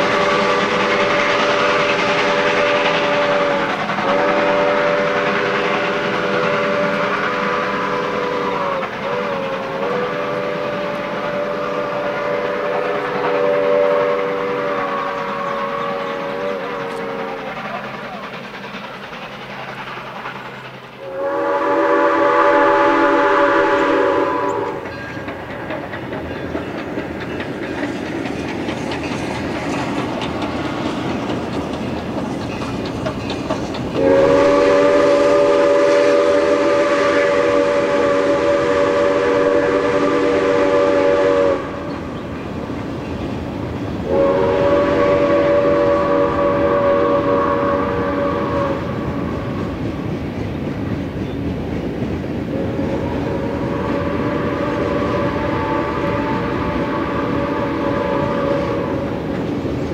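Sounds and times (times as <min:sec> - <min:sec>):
steam locomotive chime whistle: 0:00.0 - 0:25.6, 0:34.0 - 0:43.2, 0:43.9 - 0:50.1, 0:52.5 - 0:59.9
train rumbling on rails: 0:00.0 - 0:59.9.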